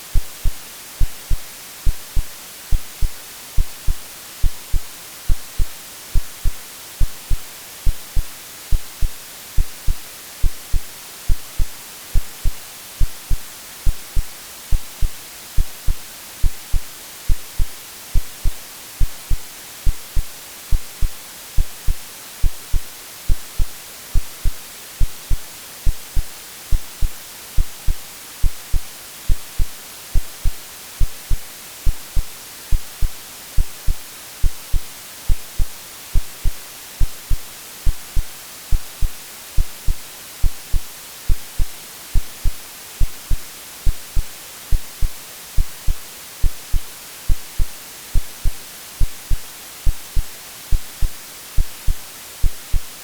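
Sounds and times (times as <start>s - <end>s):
white noise hiss: 0.0s - 53.0s
heartbeat thumps: 0.1s - 52.9s.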